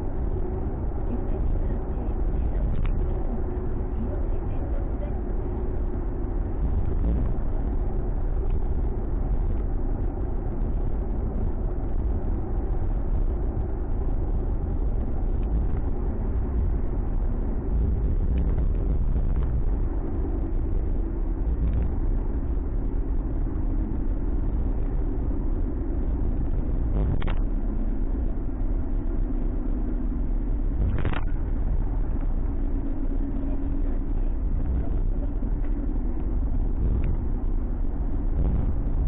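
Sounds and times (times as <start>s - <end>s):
car engine and road noise: 0.0s - 39.0s
faint hum: 0.0s - 39.0s.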